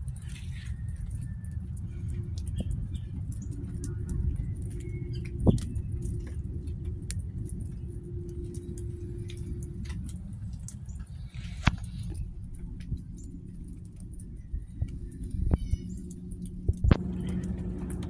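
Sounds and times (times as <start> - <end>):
light clicks and taps: 0.0 - 18.0
low rumble: 0.0 - 18.0.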